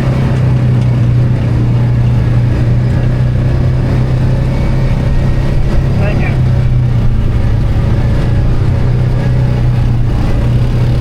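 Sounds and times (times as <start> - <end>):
atv engine running steadily: 0.0 - 11.0.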